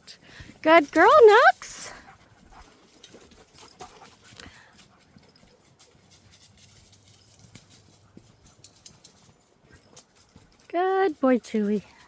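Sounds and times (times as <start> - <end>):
footsteps on a trail: 0.2 - 12.0
rustling: 0.9 - 12.0.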